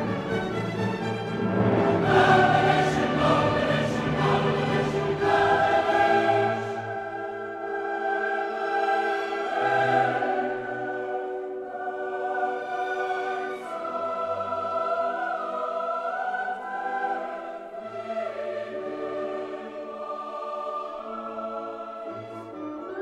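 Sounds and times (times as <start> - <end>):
choir singing long chords: 0.0 - 23.0.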